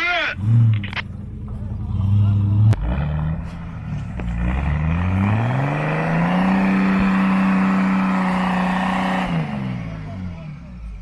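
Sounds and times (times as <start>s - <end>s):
engine revving under load: 0.3s - 11.0s.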